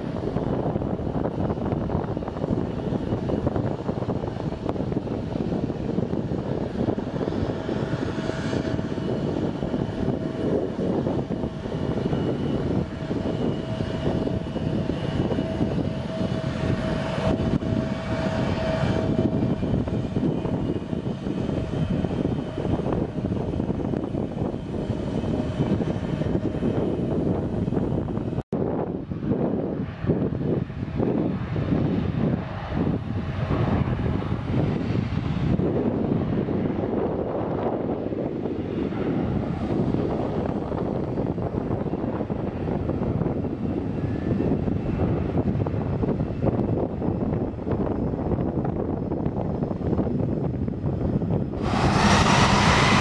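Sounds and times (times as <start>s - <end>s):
jet engine whine: 0.0s - 53.0s
jet engines rumbling: 0.0s - 53.0s.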